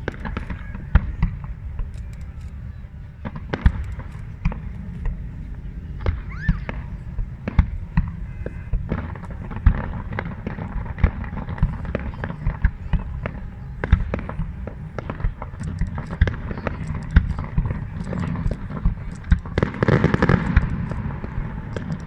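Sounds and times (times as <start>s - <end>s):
fireworks bangs and crackles: 0.0s - 22.0s
low rumble: 0.0s - 22.0s.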